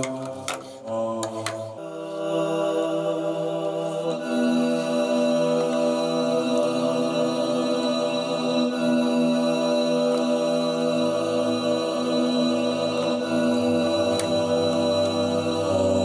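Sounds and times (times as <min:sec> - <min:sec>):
layered choir-like sung voice: 0:00.0 - 0:16.0.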